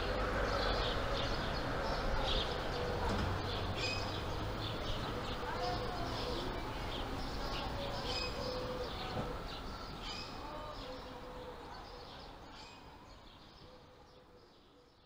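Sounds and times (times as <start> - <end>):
birds chirping: 0.0 - 15.0
outdoor background hiss: 0.0 - 15.0.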